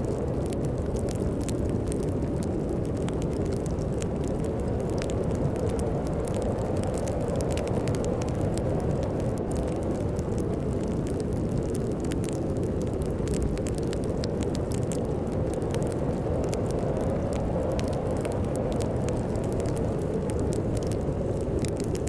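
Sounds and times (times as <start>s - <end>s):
fire crackling and popping: 0.0s - 22.0s
low rush of wind: 0.0s - 22.0s.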